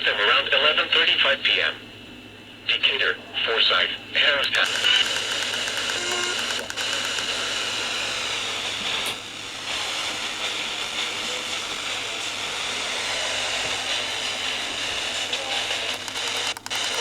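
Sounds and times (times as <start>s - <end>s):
radio static hiss: 0.0s - 1.8s, 2.6s - 17.0s.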